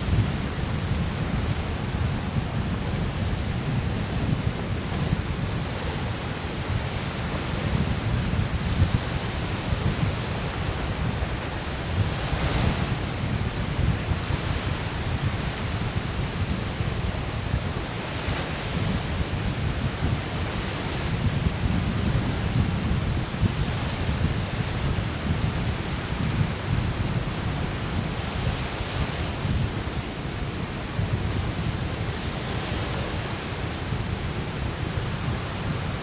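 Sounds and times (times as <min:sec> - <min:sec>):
waves breaking on beach: 0:00.0 - 0:36.0
wind buffeting microphone: 0:00.0 - 0:36.0.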